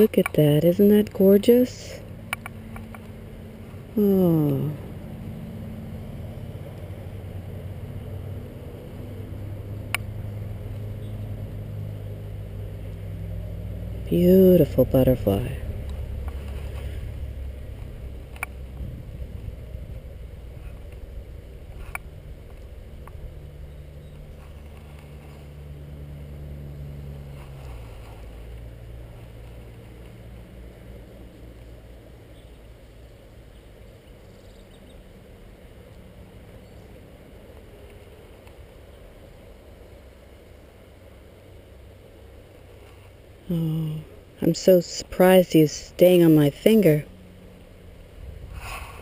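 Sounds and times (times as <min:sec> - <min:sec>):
distant engine hum: 0:00.0 - 0:49.0.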